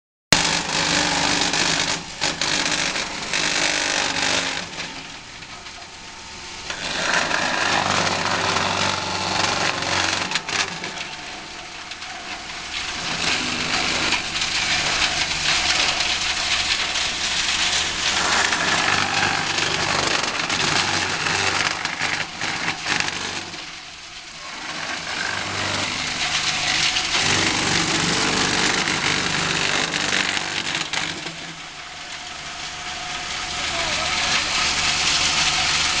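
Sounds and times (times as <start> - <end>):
wood chipper grinding branches: 0.4 - 36.0
wood chipper running: 0.4 - 36.0.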